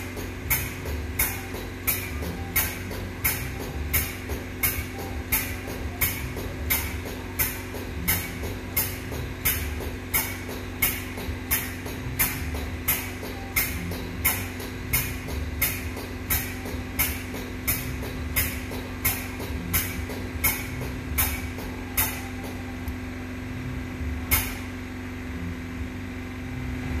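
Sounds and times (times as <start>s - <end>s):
pneumatic pump chuffing: 0.0s - 23.0s, 24.2s - 24.8s
steady hum: 0.0s - 27.0s.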